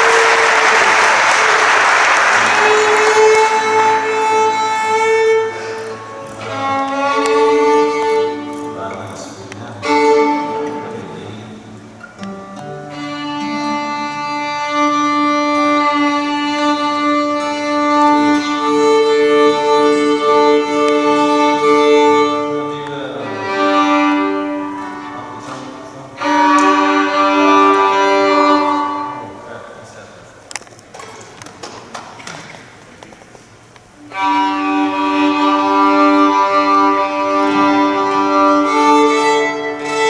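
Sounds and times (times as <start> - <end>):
violin long bowed notes: 0.0 - 30.0, 34.0 - 40.0.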